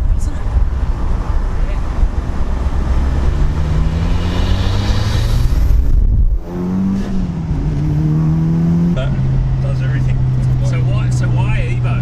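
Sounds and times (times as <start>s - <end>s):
car engine accelerating hard: 0.2s - 12.0s.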